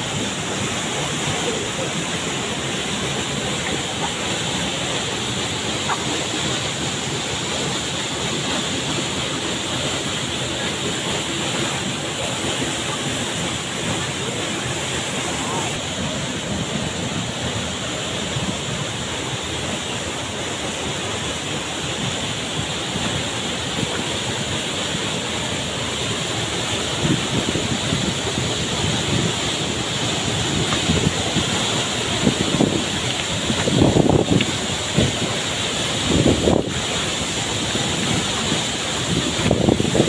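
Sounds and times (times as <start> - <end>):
waterfall splashing into pool: 0.0 - 40.0.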